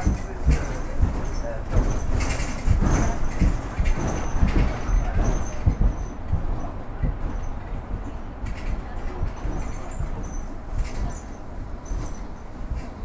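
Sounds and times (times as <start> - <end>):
bus engine and road rumble: 0.0 - 13.0
knocks and rattles: 0.0 - 13.0.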